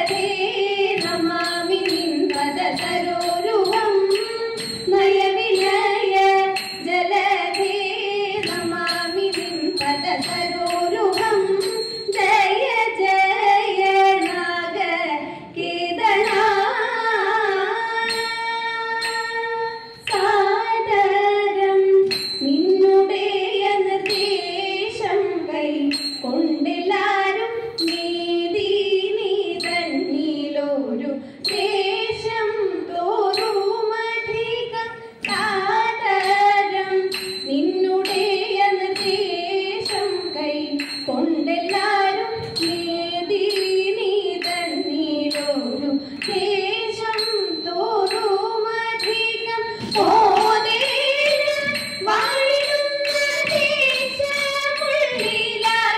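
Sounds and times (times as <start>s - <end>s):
sharp percussive beat strokes: 0.0s - 30.3s, 31.4s - 55.9s
women singing: 0.0s - 55.9s.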